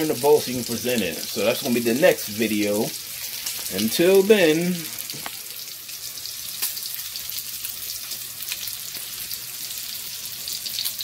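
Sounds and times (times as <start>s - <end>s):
sausage sizzling in frying pan: 0.0s - 11.0s.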